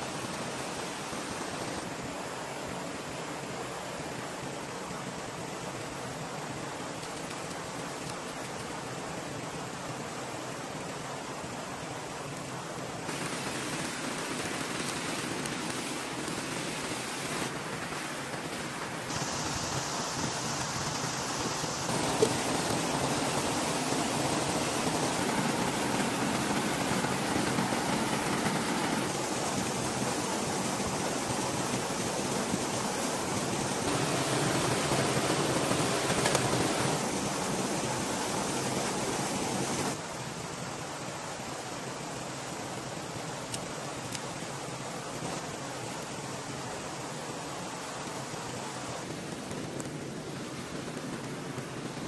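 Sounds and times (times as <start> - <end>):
small waterfall: 0.0 - 52.0
stream water flowing: 0.0 - 52.0.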